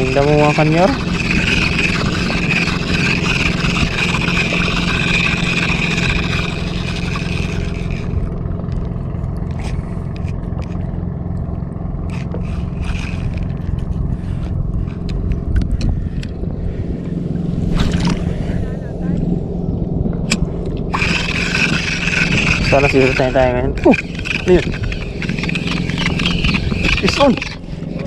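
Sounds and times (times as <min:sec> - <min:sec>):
fishing reel grinding whir: 0:00.0 - 0:18.8, 0:20.2 - 0:28.0
steady low hum: 0:00.0 - 0:28.0.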